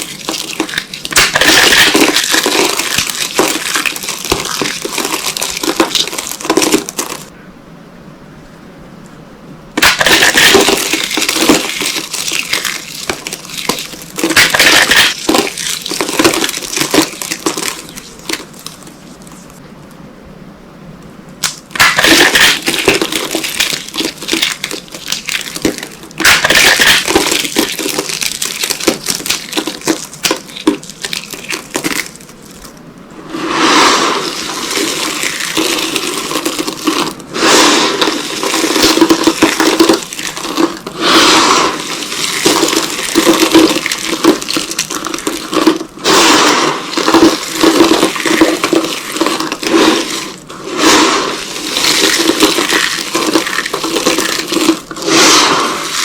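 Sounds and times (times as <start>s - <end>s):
soap being crushed crunching: 0.0s - 7.3s, 9.8s - 19.6s, 21.4s - 32.8s, 33.4s - 56.0s.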